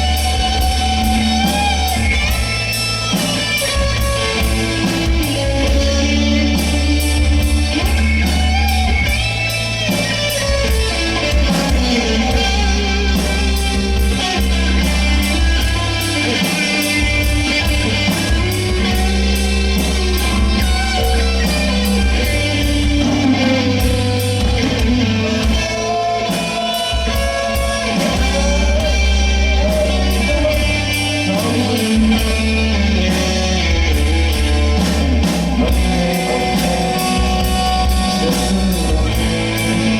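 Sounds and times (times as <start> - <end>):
bass guitar: 0.0 - 39.9
drum beat: 0.0 - 39.9
electric guitar: 0.0 - 39.9
person singing: 3.8 - 39.9.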